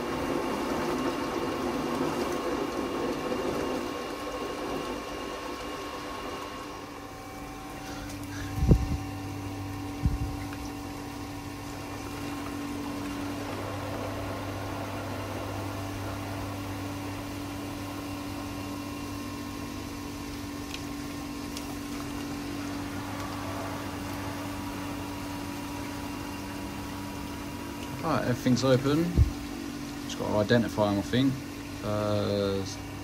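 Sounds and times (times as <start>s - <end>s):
pool pump motor hum: 0.0s - 33.0s
water rushing through pipes: 0.0s - 33.0s.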